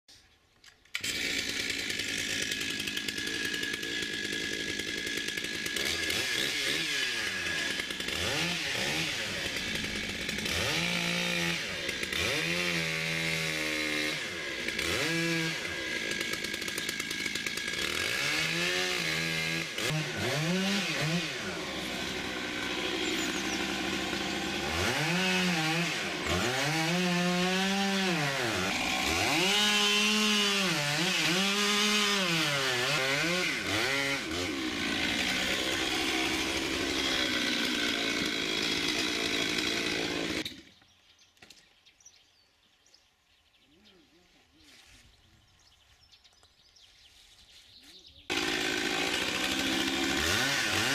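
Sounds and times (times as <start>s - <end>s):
chainsaw revving and cutting wood: 0.9s - 40.9s, 48.2s - 50.9s.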